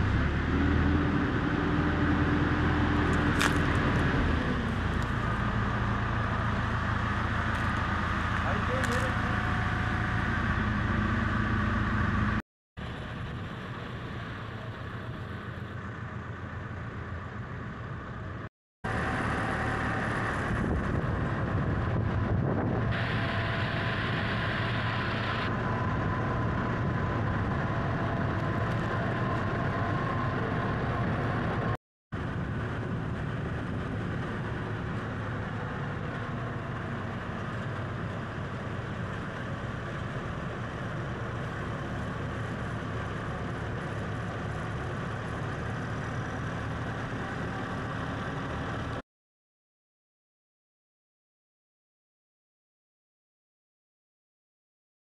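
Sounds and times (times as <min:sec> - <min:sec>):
motor vehicle engine running: 0:00.0 - 0:49.0
road noise: 0:00.0 - 0:49.0.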